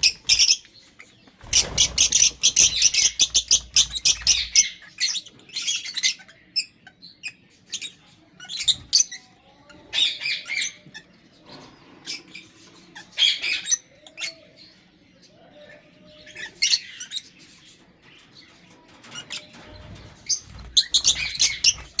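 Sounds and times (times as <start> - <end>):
birds chirping high-pitched: 0.0 - 22.0.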